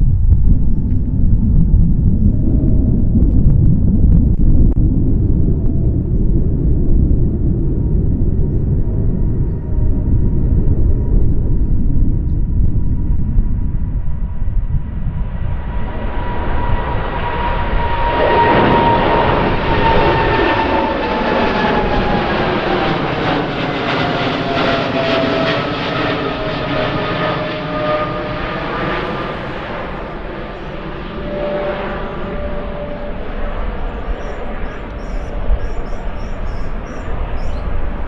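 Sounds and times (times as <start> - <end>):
jet airliner passing by: 0.0 - 38.0.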